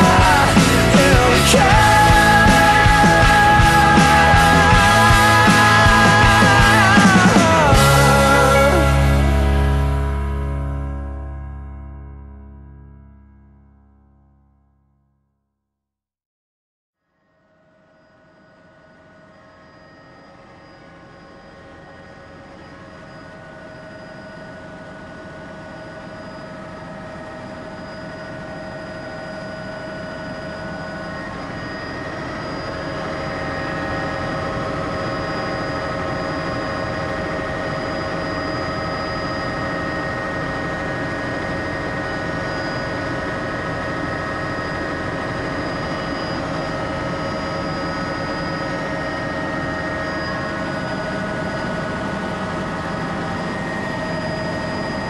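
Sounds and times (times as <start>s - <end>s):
helicopter engine and rotor: 0.0s - 10.5s, 18.0s - 55.0s.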